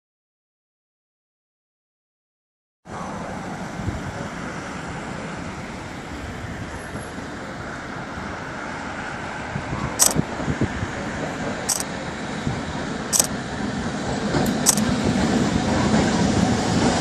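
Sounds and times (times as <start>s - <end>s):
cars passing on street: 2.9s - 17.0s.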